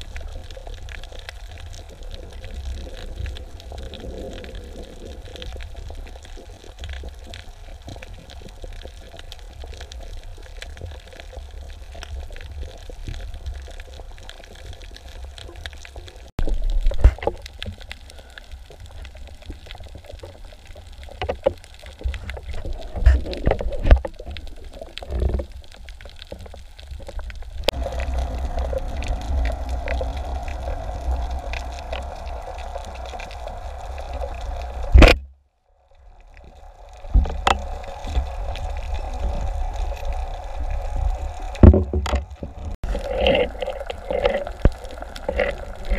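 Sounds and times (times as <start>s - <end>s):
underwater rumble: 0.0s - 45.9s.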